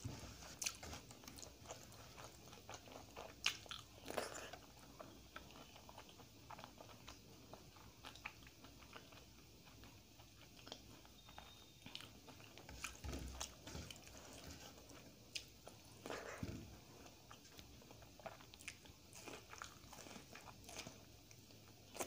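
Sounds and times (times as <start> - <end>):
close-up chewing: 0.0 - 22.0.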